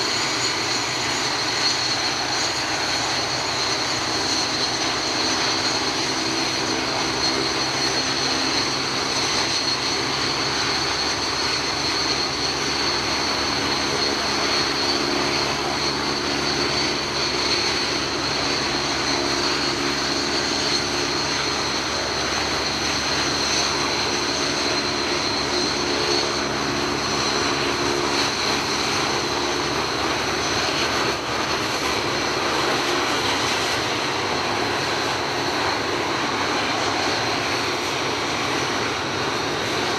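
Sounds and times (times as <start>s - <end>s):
jet engines whining while taxiing: 0.0s - 39.9s.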